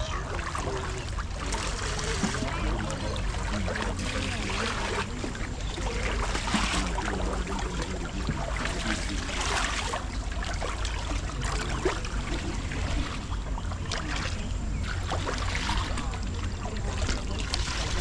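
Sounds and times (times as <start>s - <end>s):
water running and splashing: 0.0s - 18.0s.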